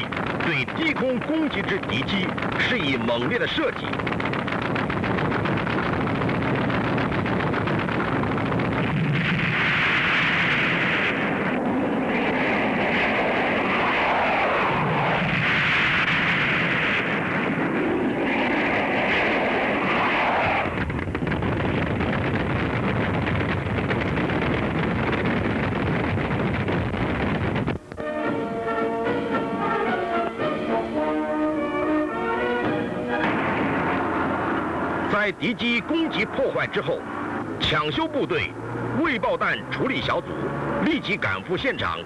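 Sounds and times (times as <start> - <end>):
anti-aircraft guns firing: 0.0 - 27.8, 32.6 - 39.2
low-flying jet aircraft: 0.0 - 42.0
steady rushing din: 0.0 - 42.0.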